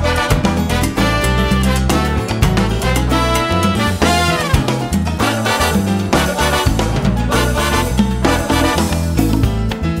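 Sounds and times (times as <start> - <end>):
horn-like lead notes: 0.0 - 9.2
upbeat background music: 0.0 - 10.0.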